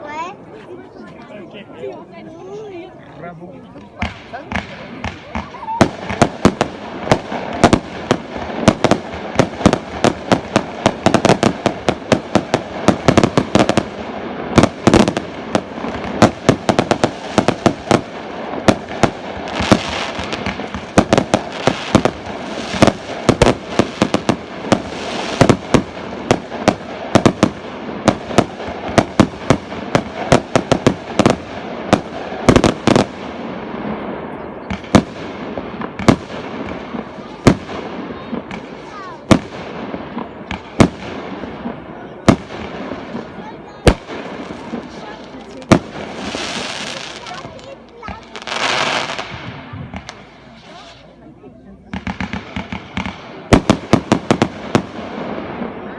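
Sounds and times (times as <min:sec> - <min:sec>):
fireworks crackling: 0:03.7 - 0:55.9
fireworks banging: 0:03.8 - 0:55.9.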